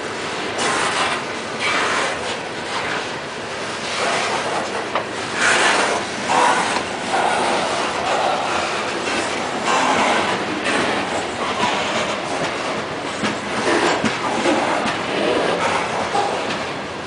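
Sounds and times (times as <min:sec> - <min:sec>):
train wheels rumbling on rail: 0:00.3 - 0:17.0.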